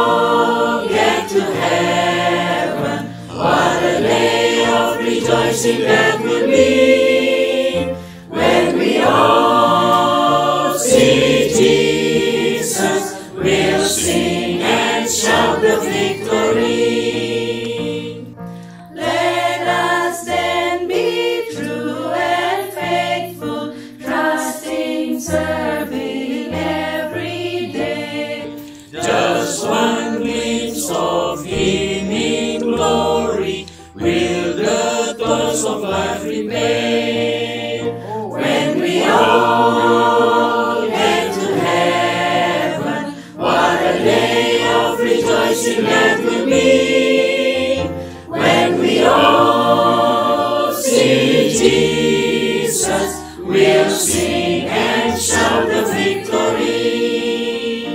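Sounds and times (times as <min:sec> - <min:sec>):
choir singing: 0:00.0 - 0:57.9.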